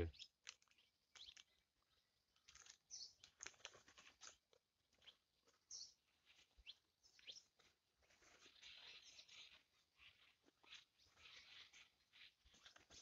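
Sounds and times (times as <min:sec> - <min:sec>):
hammock fabric rustling: 0:02.4 - 0:13.0.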